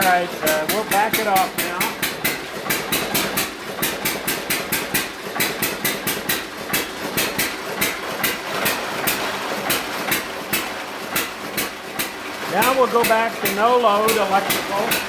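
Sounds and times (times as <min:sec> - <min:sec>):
engine exhaust barking: 0:00.0 - 0:15.0.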